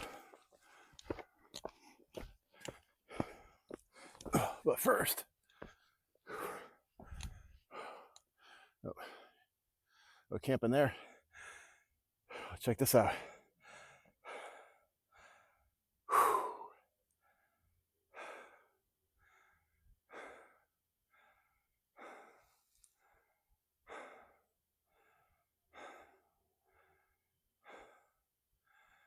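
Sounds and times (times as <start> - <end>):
person breathing hard: 0.0 - 4.7, 5.4 - 10.3, 10.9 - 29.0.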